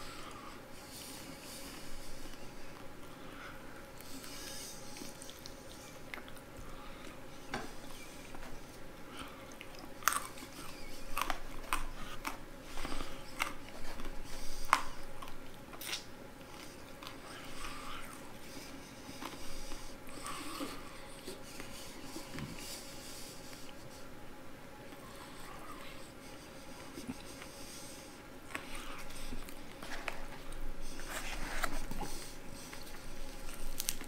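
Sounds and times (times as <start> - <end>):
man chewing crunchy food: 0.0 - 24.1, 24.8 - 34.0.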